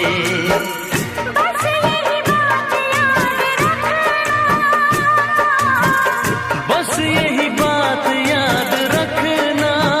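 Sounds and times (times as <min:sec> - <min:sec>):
song with wavering melody and beat: 0:00.0 - 0:10.0.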